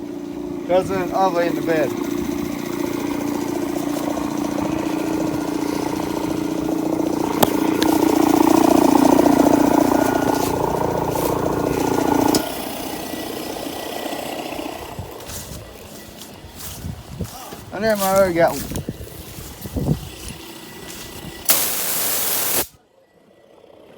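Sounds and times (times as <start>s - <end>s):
motor running steadily: 0.0s - 23.9s.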